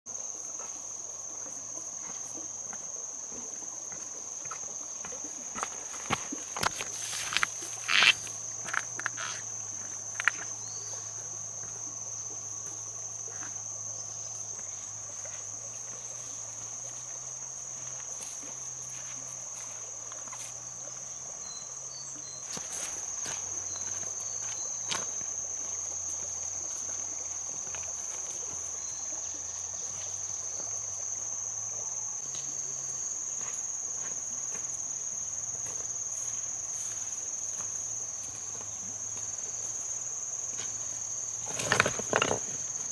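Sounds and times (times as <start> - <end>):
high-pitched insect chorus: 0.1 - 42.9.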